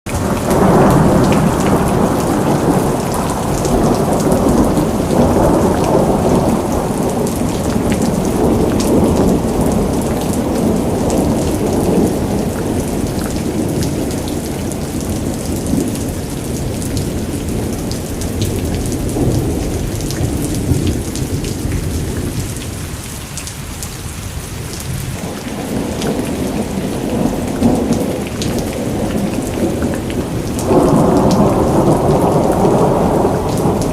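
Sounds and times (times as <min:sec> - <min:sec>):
thunder rumbling: 0:00.1 - 0:23.0, 0:24.7 - 0:33.9
heavy rain pouring: 0:00.1 - 0:33.9.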